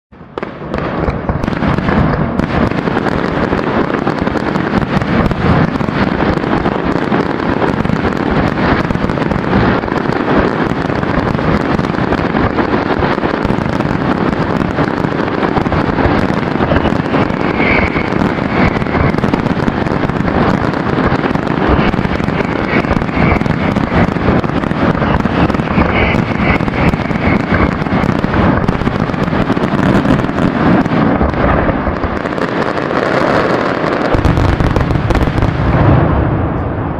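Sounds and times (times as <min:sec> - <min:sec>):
fireworks bangs and crackling: 0:00.1 - 0:36.9.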